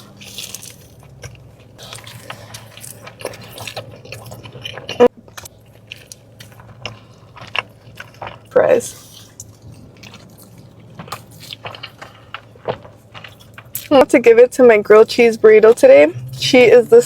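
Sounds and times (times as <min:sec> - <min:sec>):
person chewing crunchy food: 0:00.0 - 0:13.9.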